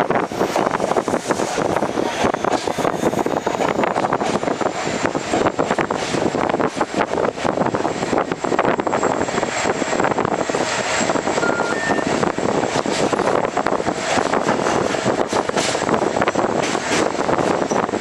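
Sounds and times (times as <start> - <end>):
train wheels on rails: 0.0 - 11.4, 12.1 - 18.0.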